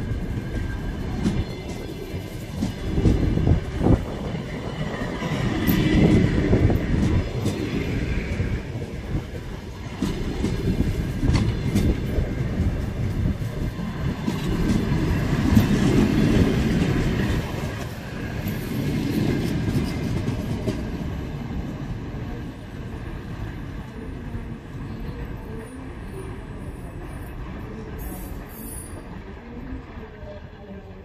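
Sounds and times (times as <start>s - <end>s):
train wheels rumbling on rails: 0.0s - 30.5s.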